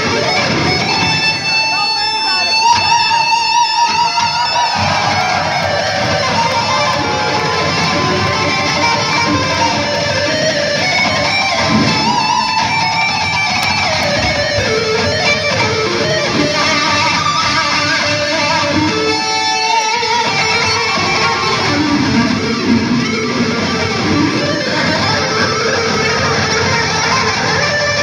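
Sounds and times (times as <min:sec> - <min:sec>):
distorted electric guitar lead: 0:00.0 - 0:28.0
heavy metal band playing: 0:00.0 - 0:28.0.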